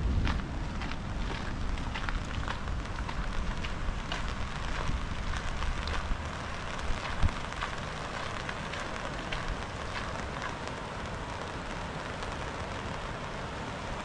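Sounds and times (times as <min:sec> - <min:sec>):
rain drops pattering: 0:00.0 - 0:14.0.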